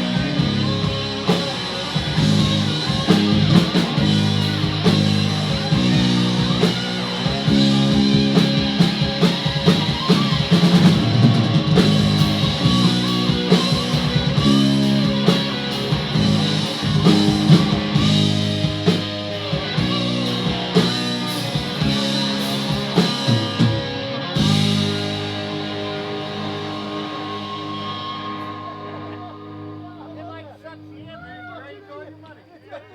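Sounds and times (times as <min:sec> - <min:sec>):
drum kit: 0:00.0 - 0:30.4
electric guitar: 0:00.0 - 0:31.0
bass guitar: 0:00.0 - 0:31.4.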